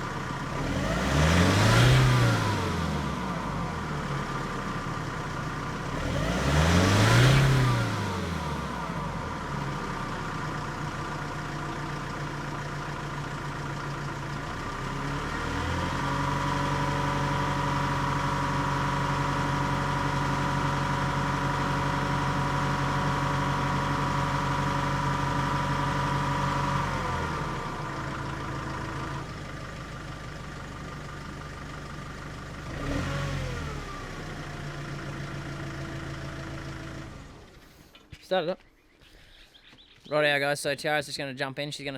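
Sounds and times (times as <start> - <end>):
diesel engine revving: 0.0 - 37.8.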